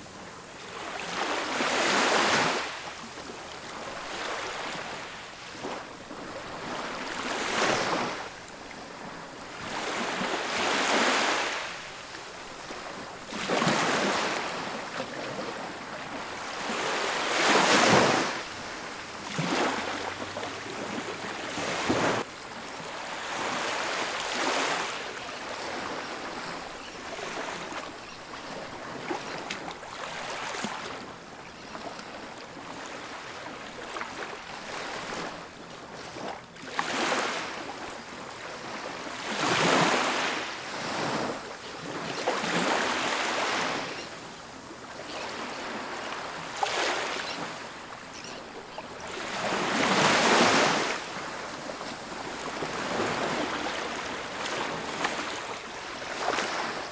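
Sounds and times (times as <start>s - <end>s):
ocean surf breaking on beach: 0.0s - 31.3s, 32.2s - 56.9s.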